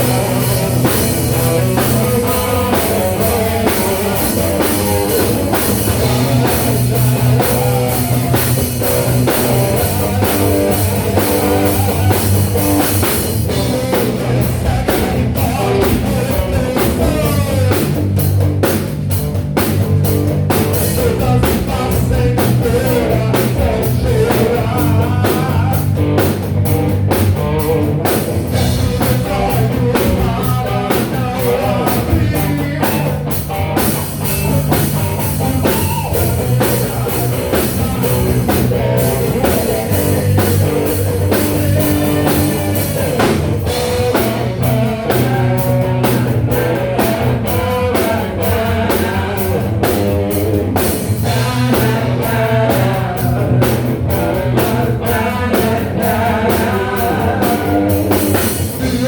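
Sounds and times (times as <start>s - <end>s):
person singing: 0.0s - 18.4s, 20.5s - 26.4s, 27.1s - 59.0s
bass guitar: 0.0s - 59.0s
drum kit: 0.0s - 59.0s
electric guitar: 0.0s - 59.0s.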